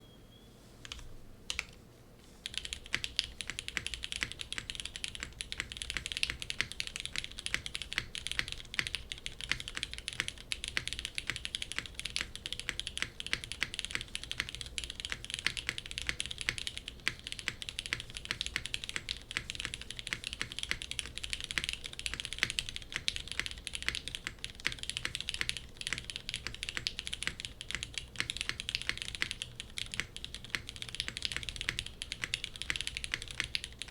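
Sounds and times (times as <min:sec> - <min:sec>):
fast mechanical keyboard typing: 0:00.9 - 0:01.7, 0:02.4 - 0:33.9.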